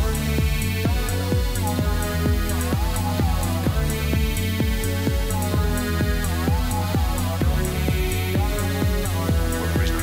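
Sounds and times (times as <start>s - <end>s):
four-on-the-floor kick drum: 0.0s - 10.0s
synth chords and bass: 0.0s - 10.0s.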